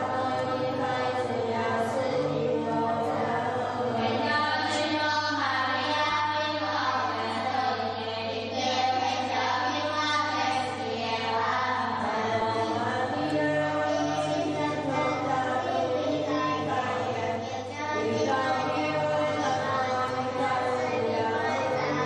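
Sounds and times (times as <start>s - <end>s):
congregation chanting in unison: 0.0s - 22.0s.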